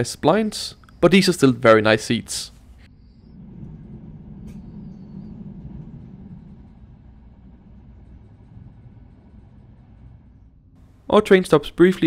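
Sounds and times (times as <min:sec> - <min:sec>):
train cabin rumble: 0:00.6 - 0:12.0.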